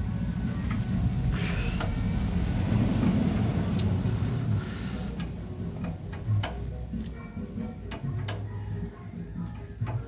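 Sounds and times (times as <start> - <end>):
diesel engine chugging: 0.0 - 9.5.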